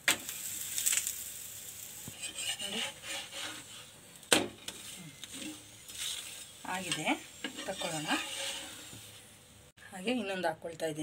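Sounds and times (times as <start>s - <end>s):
frying sizzle: 0.0s - 10.6s
spatula scraping on hot griddle: 0.1s - 9.4s.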